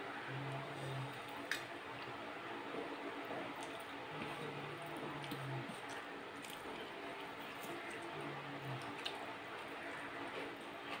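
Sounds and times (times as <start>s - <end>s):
chewing: 0.5s - 11.0s.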